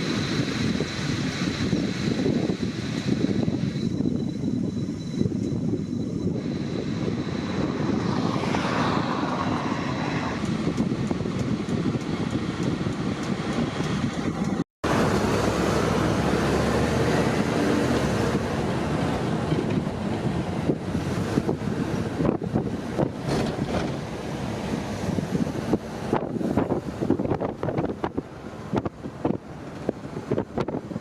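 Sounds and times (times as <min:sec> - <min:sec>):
road traffic noise: 0:00.0 - 0:31.0
wind rumbling on microphone: 0:00.0 - 0:31.0.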